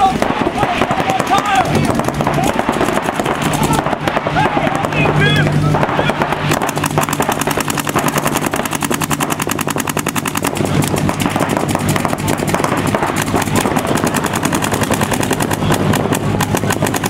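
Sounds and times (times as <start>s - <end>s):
paintball guns firing rapidly: 0.0s - 17.0s.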